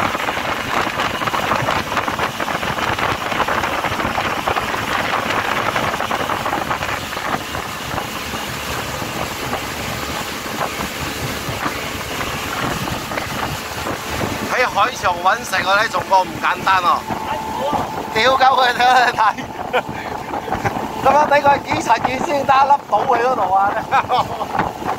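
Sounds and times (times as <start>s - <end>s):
motorboat engine drone: 0.0s - 24.9s
water and spray rushing: 0.0s - 24.9s.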